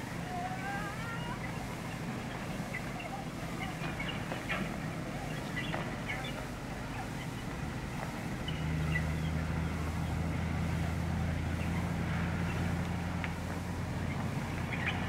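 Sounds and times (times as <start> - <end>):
distant traffic hum: 0.0 - 15.0
vehicle engine drone: 0.0 - 15.0.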